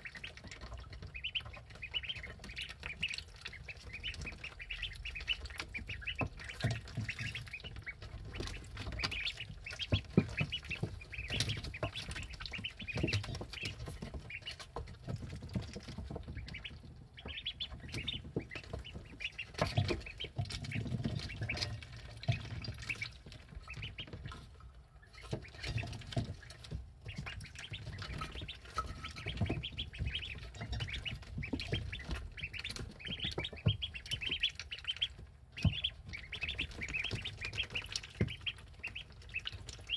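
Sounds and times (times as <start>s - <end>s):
clicks of ducklings feeding: 0.0s - 39.9s
ducklings peeping: 0.0s - 39.9s.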